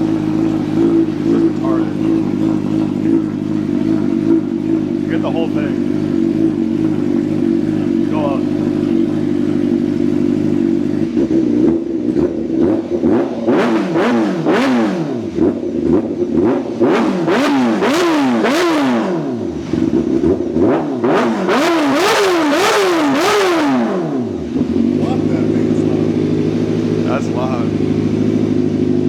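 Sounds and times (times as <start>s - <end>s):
loud motorcycle engine revving: 0.0s - 29.0s.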